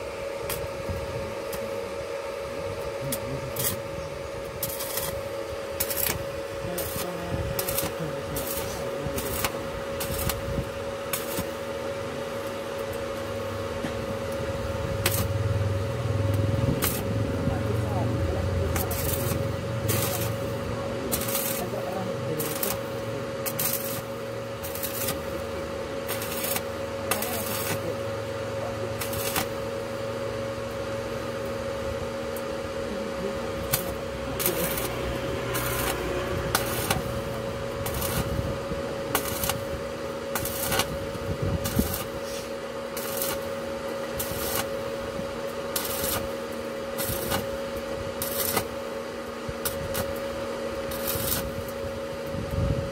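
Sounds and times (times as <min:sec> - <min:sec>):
steady hum: 0:00.0 - 0:52.9
welding arc crackling and hissing: 0:00.0 - 0:52.9.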